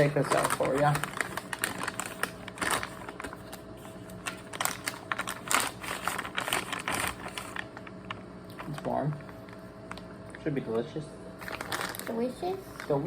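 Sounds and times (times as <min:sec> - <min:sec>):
food packaging crinkling: 0:00.0 - 0:10.4, 0:11.4 - 0:13.0.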